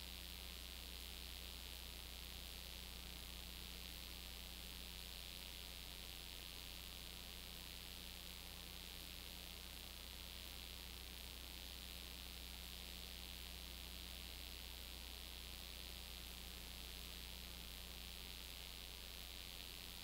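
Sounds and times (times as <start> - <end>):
constant hiss: 0.0 - 20.0
low electrical hum: 0.0 - 20.0.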